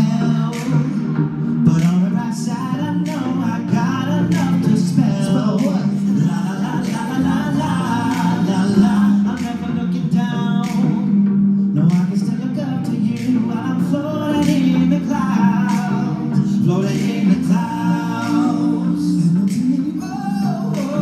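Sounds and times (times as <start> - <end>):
male a cappella group singing: 0.0 - 21.0.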